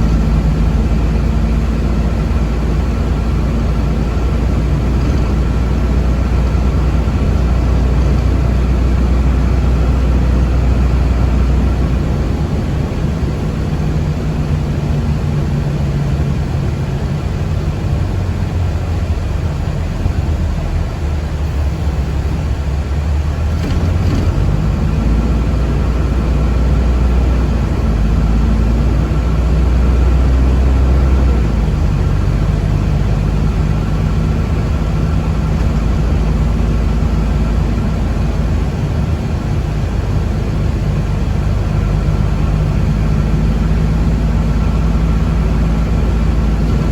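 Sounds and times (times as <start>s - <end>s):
vehicle rumble on road: 0.0s - 46.9s.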